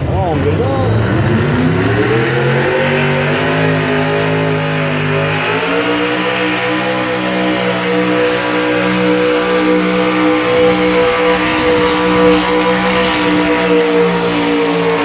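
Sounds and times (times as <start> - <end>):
truck engine running hard: 0.0 - 15.0.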